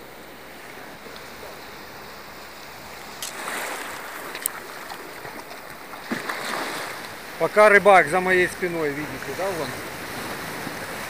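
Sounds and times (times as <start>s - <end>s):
small waves washing onto shore: 0.0s - 11.0s.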